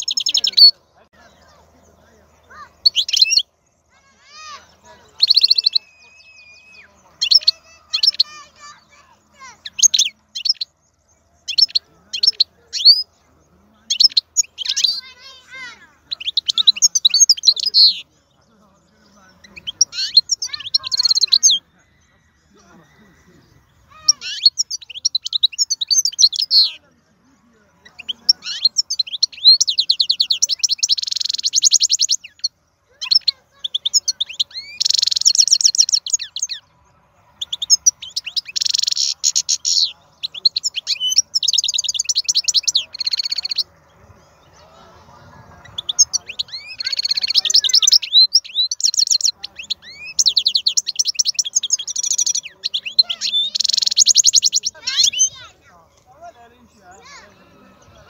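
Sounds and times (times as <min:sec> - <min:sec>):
goldfinch twittering song: 0:00.0 - 0:58.0.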